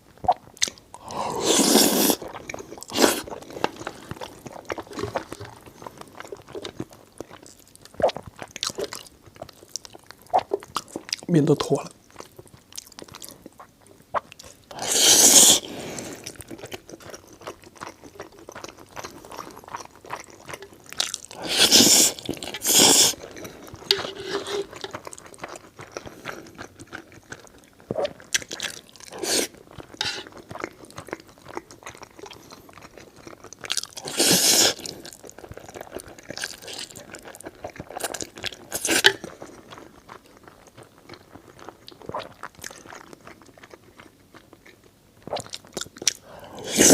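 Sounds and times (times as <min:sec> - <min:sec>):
person chewing food: 0:00.0 - 0:11.3, 0:12.0 - 0:46.9.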